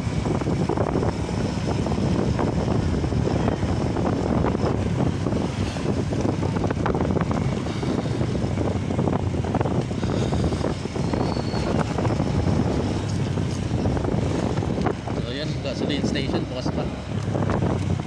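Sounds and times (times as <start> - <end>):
motorcycle engine: 0.0 - 18.0
road noise: 0.0 - 18.0
wind buffeting microphone: 0.0 - 18.0.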